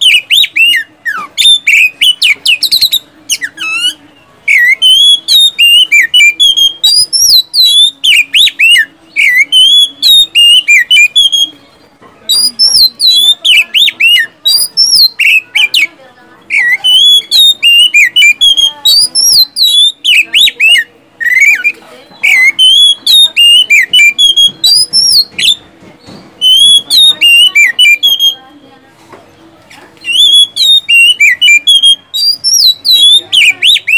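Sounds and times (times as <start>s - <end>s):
bird singing whistled notes: 0.0s - 15.9s, 16.5s - 28.6s, 30.0s - 33.9s.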